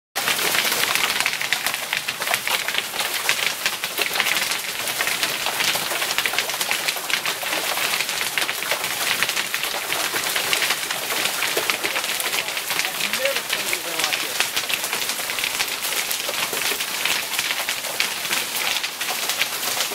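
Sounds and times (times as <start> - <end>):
hail clattering on wood: 0.2 - 19.9.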